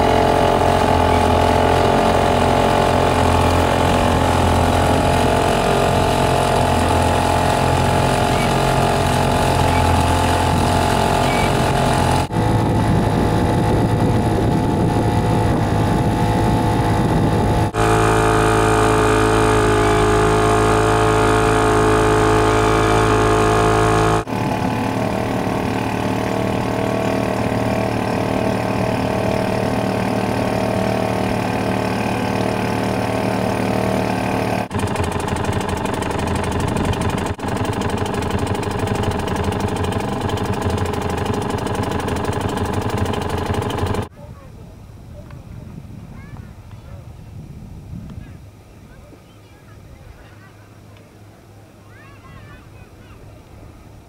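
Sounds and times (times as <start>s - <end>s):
small boat engine running: 0.0s - 44.1s.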